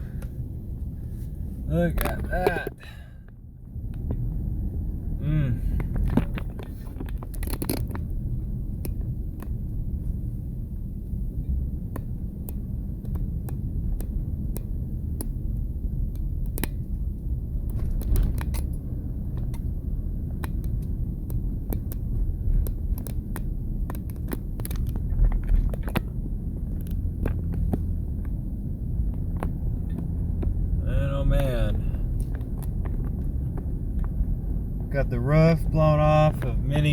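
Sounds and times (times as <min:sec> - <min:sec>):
vehicle driving rumble: 0:00.0 - 0:36.9
sharp clicks and ticks: 0:05.8 - 0:36.9.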